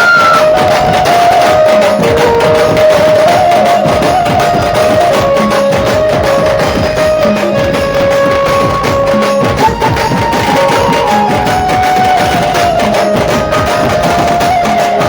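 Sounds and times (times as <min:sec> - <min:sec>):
fast dense drumming: 0:00.0 - 0:15.0
sustained melody: 0:00.0 - 0:15.0.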